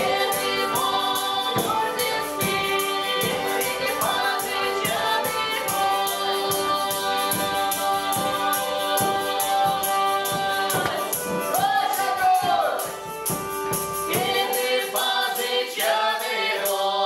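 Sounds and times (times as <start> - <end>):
steady percussion beat: 0.0 - 16.8
voices singing in harmony: 0.0 - 17.0.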